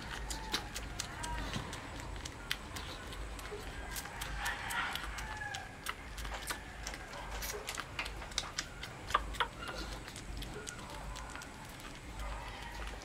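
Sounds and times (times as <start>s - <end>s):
puppy eating wet smacking: 0.0s - 13.0s.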